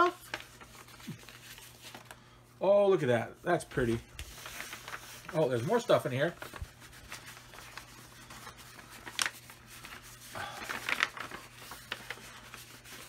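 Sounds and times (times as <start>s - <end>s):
paper envelope rustling: 0.0s - 2.3s, 3.0s - 13.0s.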